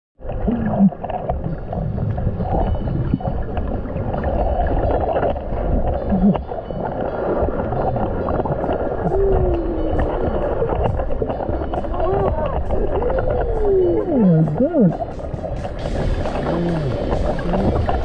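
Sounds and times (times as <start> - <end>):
underwater rumble of moving water: 0.2 - 18.0.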